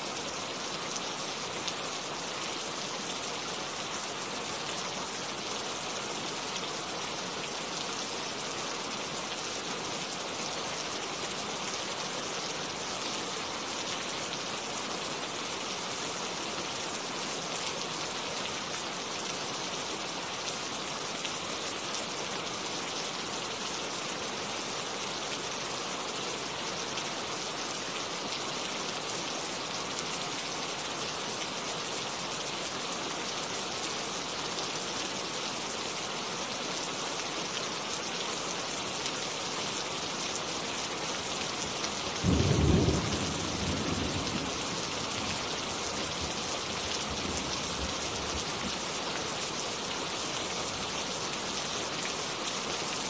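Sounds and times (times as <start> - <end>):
steady rain patter: 0.0 - 53.0.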